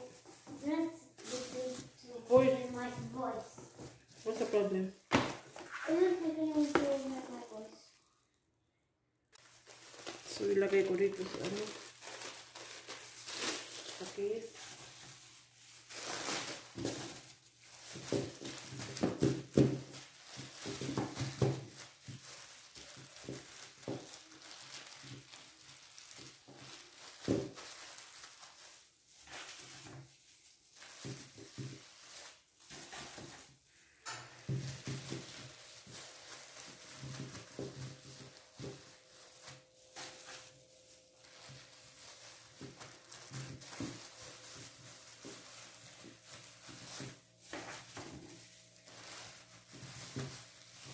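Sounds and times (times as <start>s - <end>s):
plastic bag rustling: 0.0s - 8.2s, 9.4s - 50.9s.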